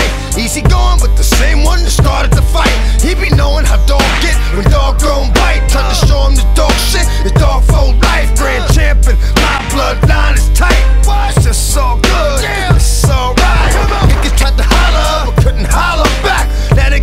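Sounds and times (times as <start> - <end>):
steady drum beat: 0.0 - 6.7, 7.3 - 17.0
hip hop music: 0.0 - 17.0.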